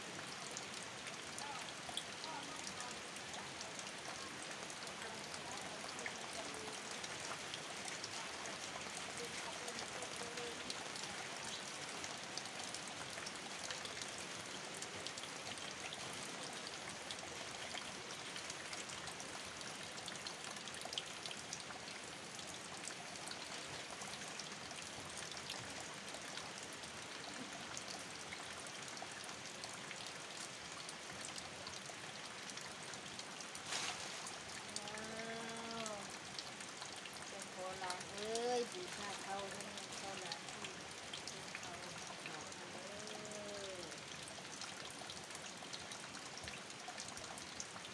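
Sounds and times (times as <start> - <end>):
running water: 0.0 - 47.9
steady rain falling: 0.0 - 47.9.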